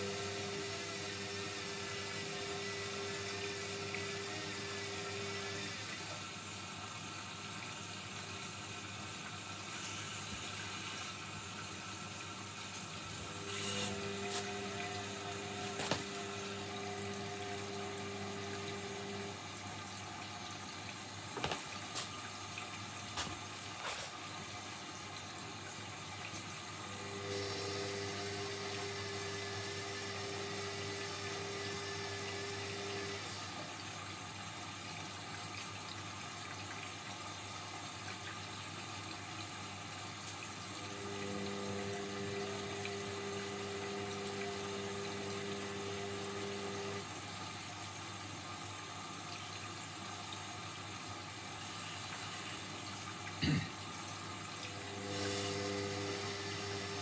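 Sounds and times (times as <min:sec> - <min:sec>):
washing machine motor: 0:00.0 - 0:37.2, 0:37.9 - 0:57.0
water sloshing in washing machine: 0:00.0 - 0:57.0.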